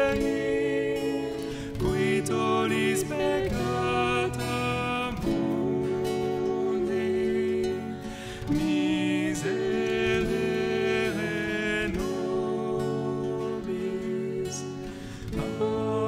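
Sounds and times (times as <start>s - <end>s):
acoustic guitar: 0.0s - 16.0s
keyboard: 0.0s - 16.0s.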